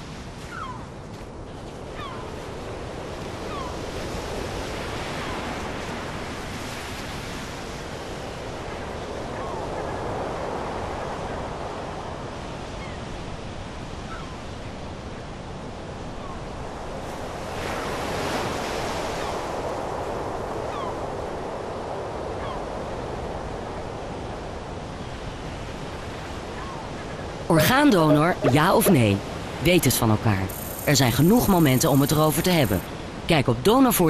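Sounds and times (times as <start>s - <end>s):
surf washing on beach: 0.0s - 13.9s, 14.8s - 34.0s.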